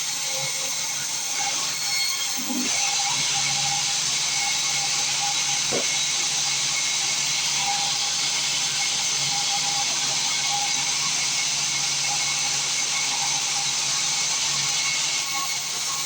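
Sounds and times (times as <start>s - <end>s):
band sawmill running: 0.0s - 16.0s.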